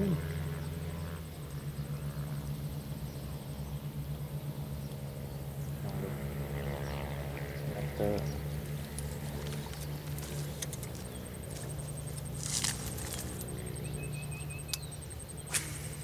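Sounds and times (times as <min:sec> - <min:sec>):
outdoor background noise: 0:00.0 - 0:16.0
steady low hum: 0:00.0 - 0:16.0.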